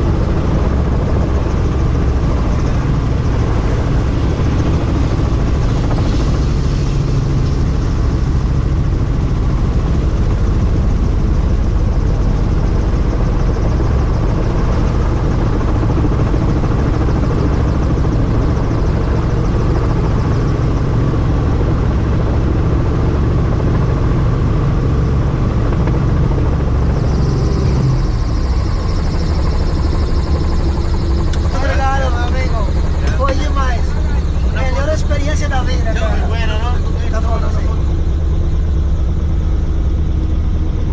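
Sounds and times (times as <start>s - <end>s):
wind noise: 0.0s - 36.1s
helicopter rotor and engine rumble: 0.0s - 40.9s
high whine: 0.0s - 40.9s.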